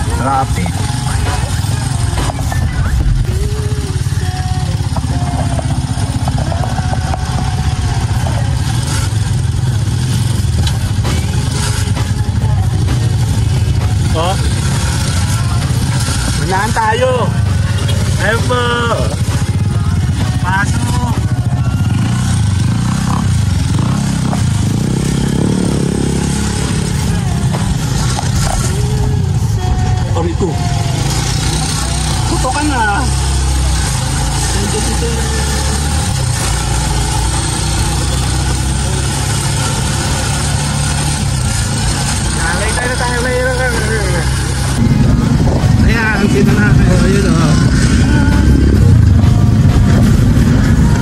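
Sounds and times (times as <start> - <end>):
motorcycle engine low rumble: 0.0 - 51.0.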